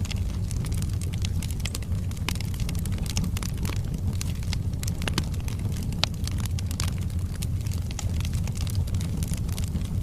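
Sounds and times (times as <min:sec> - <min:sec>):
fire rumbling: 0:00.0 - 0:10.0
logs crackling and popping: 0:00.0 - 0:10.0.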